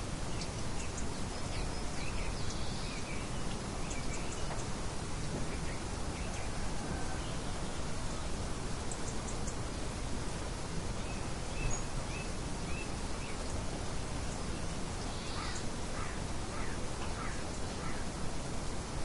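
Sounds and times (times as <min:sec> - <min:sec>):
small birds chirping: 0:00.2 - 0:06.6, 0:07.2 - 0:09.7, 0:11.0 - 0:18.2.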